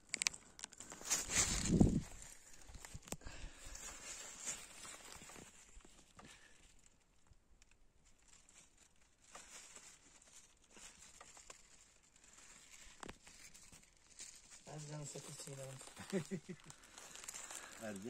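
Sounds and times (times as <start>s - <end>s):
soft clicks and rustles: 0.0s - 18.0s.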